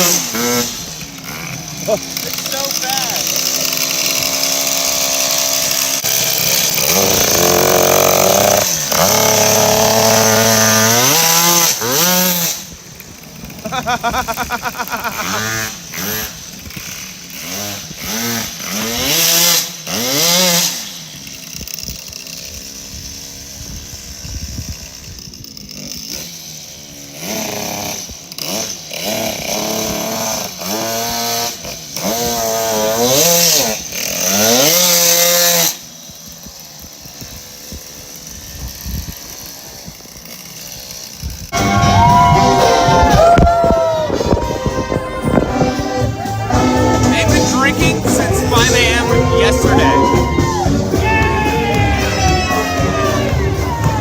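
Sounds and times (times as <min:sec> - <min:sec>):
moped engine revving: 0:00.0 - 0:39.3, 0:39.9 - 0:54.0.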